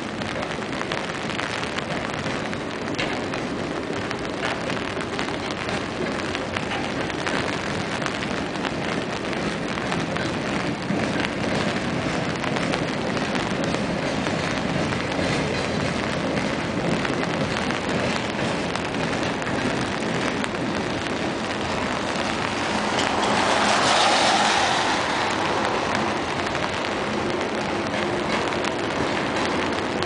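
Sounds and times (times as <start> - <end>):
freight train rolling on rails: 0.0 - 30.0
rain on an umbrella: 0.0 - 30.0.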